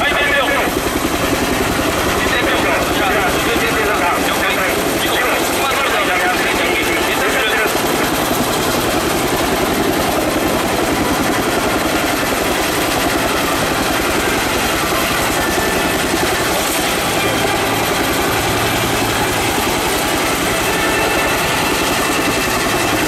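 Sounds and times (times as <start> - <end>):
helicopter rotor chopping: 0.0 - 23.0
turbine whine: 0.0 - 23.0.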